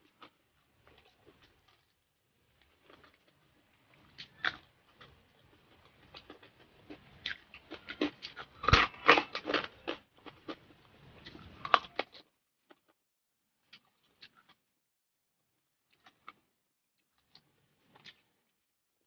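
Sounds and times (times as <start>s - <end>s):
crunching and chewing: 0.0s - 13.0s, 13.6s - 14.7s, 15.8s - 18.6s.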